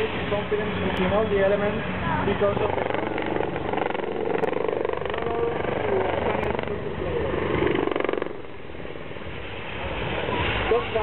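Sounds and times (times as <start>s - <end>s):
helicopter rotors chopping: 0.0s - 11.0s.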